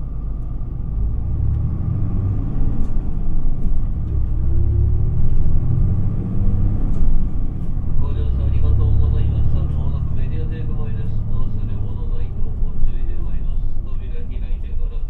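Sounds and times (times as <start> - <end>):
bus diesel engine accelerating: 0.0 - 15.0.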